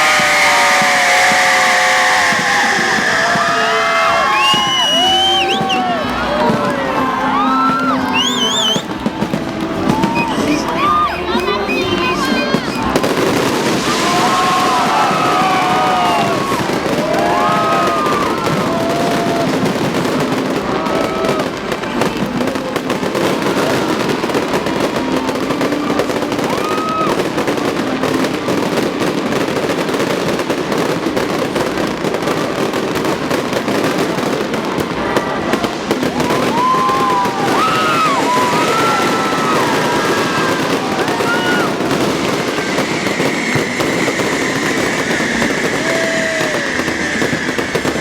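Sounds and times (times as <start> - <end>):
crowd shouting: 0.0 - 48.0
fireworks bangs and crackling: 0.0 - 48.0.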